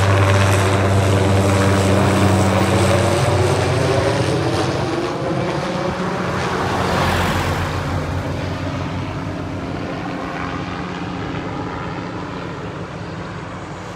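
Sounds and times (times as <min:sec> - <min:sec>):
helicopter rotor drone: 0:00.0 - 0:13.9.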